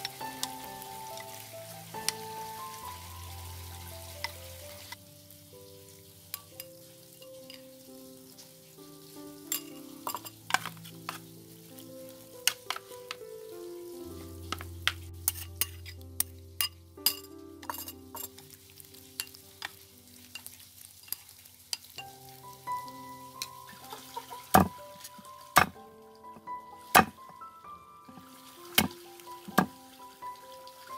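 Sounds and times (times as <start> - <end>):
soft instrumental music: 0.0 - 30.9.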